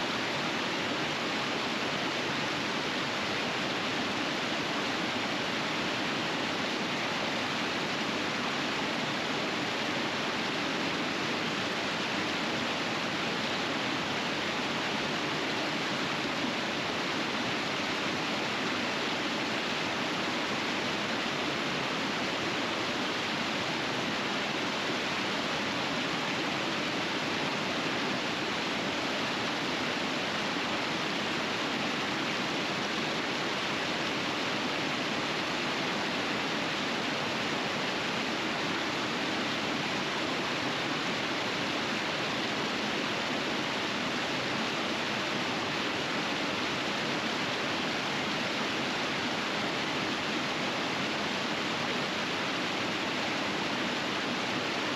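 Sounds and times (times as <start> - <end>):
river rushing over rapids: 0.0 - 54.9.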